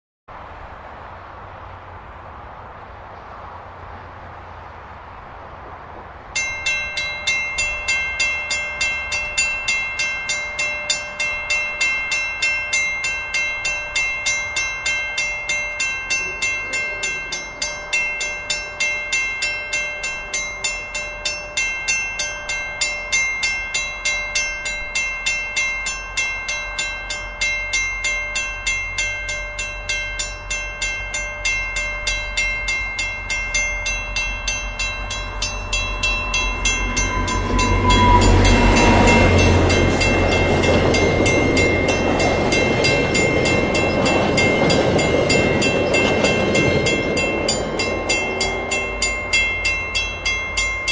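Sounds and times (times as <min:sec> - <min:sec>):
diesel locomotive engine: 0:00.3 - 0:50.9
train cars rumbling: 0:00.3 - 0:50.9
level crossing bell ringing: 0:06.4 - 0:50.9.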